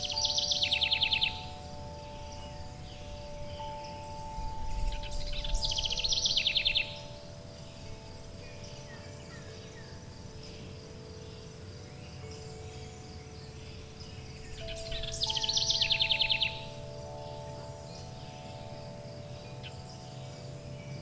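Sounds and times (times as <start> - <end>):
faint bird chirps: 0.0 - 21.0
faint high hiss: 0.0 - 21.0
songbird trilling: 0.0 - 21.0
wind chimes ringing: 0.0 - 21.0.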